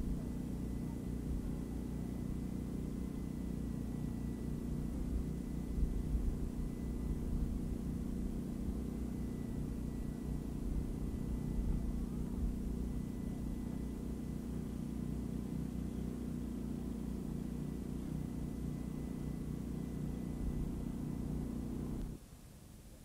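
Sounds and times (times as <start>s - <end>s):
motor humming: 0.0s - 22.2s.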